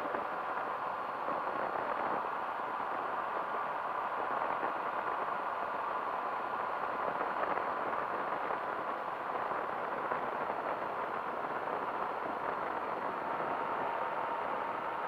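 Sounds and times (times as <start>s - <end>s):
engine and propeller drone: 0.0s - 15.0s
wind noise: 0.0s - 15.0s.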